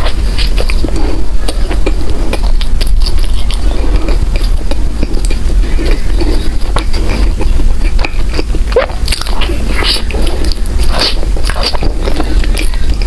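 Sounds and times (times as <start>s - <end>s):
bread being chewed: 0.0s - 13.0s
steady low hum: 0.0s - 13.0s.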